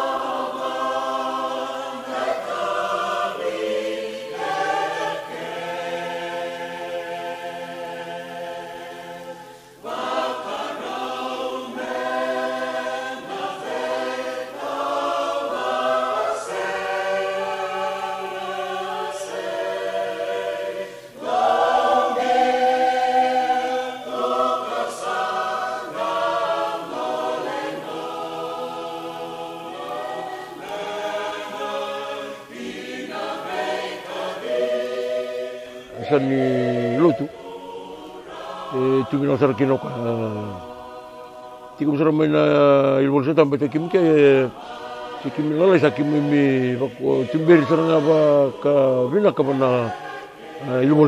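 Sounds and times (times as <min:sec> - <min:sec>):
choir singing unaccompanied: 0:00.0 - 0:51.0.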